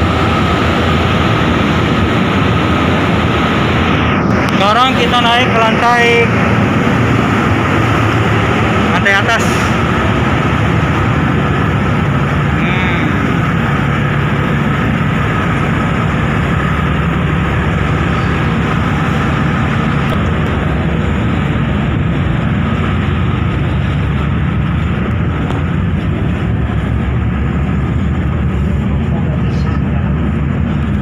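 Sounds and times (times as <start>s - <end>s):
ferry engines droning: 0.0s - 31.0s.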